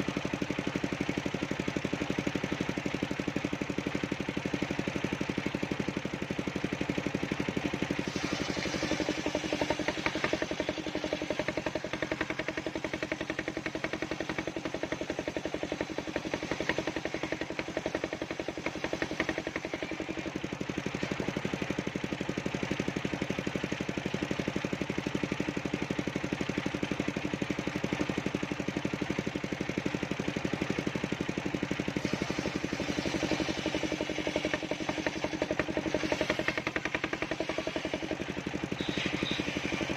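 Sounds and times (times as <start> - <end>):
saw engine running steadily: 0.0 - 39.9.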